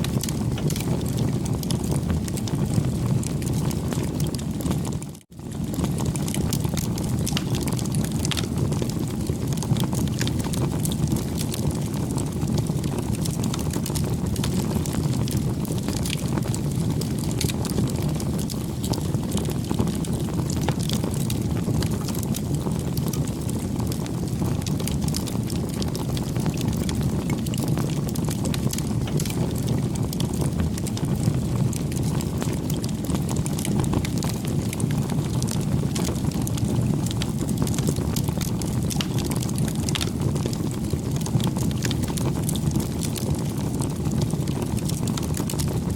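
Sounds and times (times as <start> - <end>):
campfire crackling: 0.1 - 5.0, 5.6 - 45.9.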